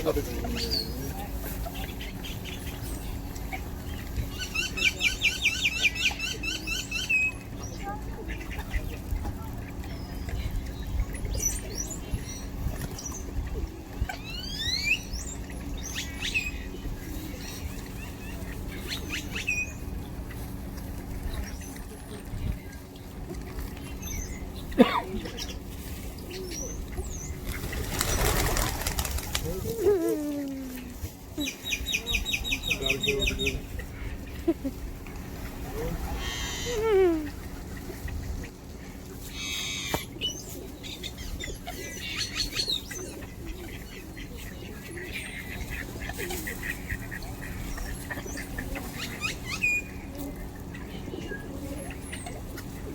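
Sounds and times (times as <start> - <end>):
small birds chirping: 0.0 - 29.7, 30.4 - 52.9
low background rumble: 0.0 - 52.9.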